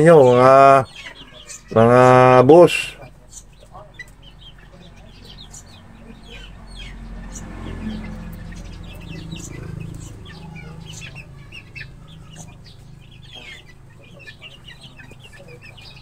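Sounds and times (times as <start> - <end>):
young chickens peeping and clucking: 0.0 - 16.0.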